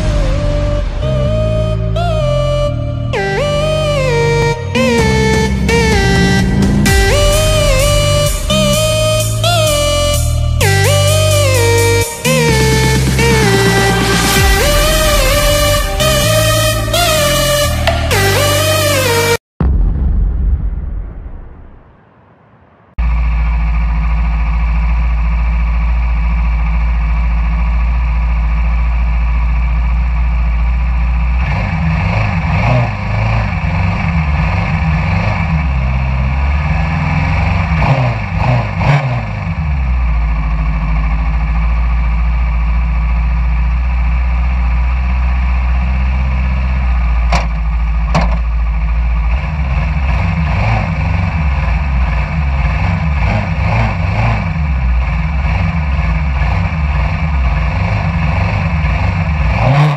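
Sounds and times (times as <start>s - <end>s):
engine idling and revving: 0.0s - 59.9s.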